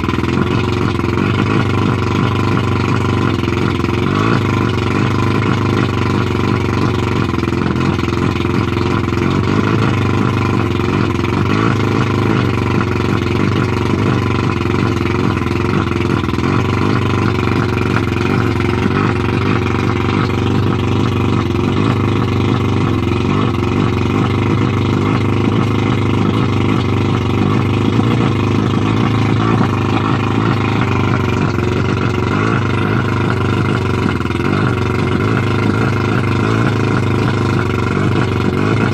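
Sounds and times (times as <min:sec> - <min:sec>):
outboard motor idling: 0:00.0 - 0:38.9.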